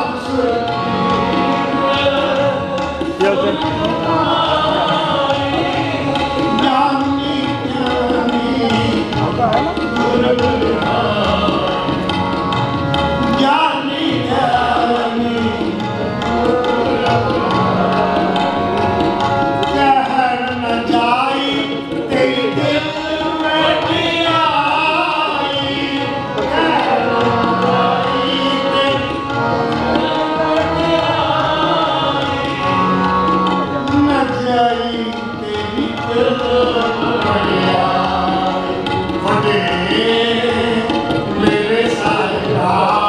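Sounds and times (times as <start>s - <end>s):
men singing a hymn: 0.0s - 12.4s, 13.2s - 18.9s, 19.5s - 43.0s
harmoniums: 0.0s - 43.0s
tabla rhythm: 0.0s - 43.0s.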